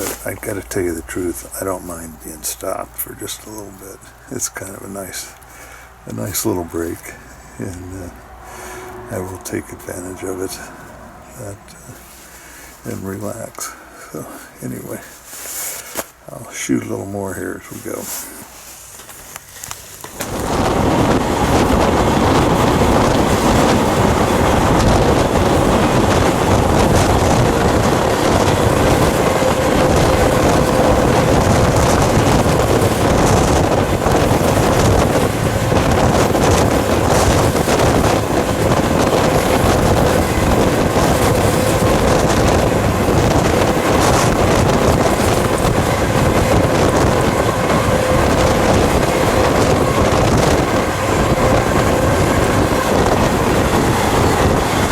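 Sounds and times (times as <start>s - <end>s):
wind buffeting microphone: 0.0s - 13.5s, 20.0s - 54.9s
freight train rumbling: 0.0s - 15.5s, 20.0s - 54.9s.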